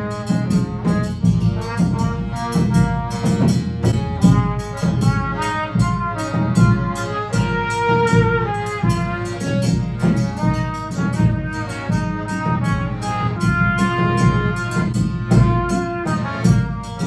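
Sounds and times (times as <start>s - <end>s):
accordion: 0.0s - 17.0s
bass drum beat: 0.0s - 17.0s
trumpet melody: 0.0s - 17.0s.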